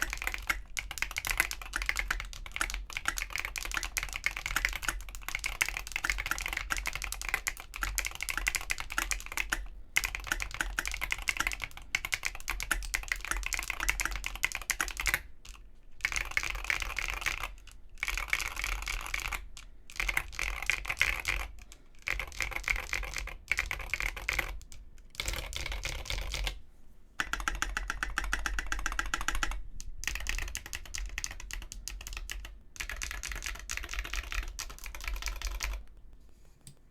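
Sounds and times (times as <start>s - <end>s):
mechanical keyboard typing: 0.0s - 26.6s, 27.2s - 36.8s.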